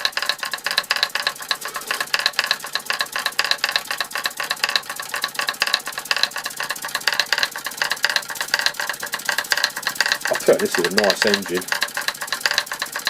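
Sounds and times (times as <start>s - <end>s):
toy steam hammers clattering: 0.0s - 13.0s.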